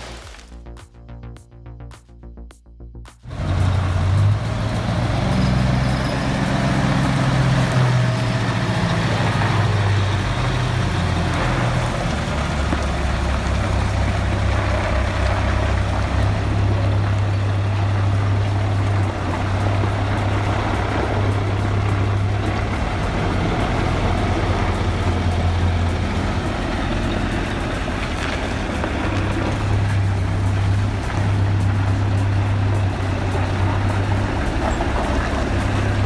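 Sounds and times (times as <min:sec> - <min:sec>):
heavy vehicle engine humming: 0:03.2 - 0:36.0.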